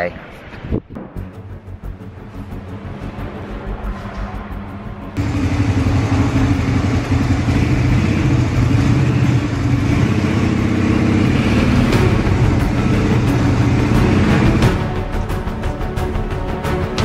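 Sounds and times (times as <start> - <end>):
vehicle engine throbbing at low revs: 1.3 - 15.0.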